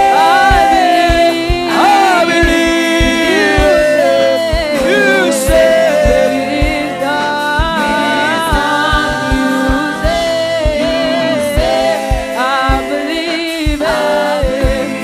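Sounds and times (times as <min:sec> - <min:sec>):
gospel singing voices: 0:00.0 - 0:15.0
low drum beats: 0:00.0 - 0:15.0.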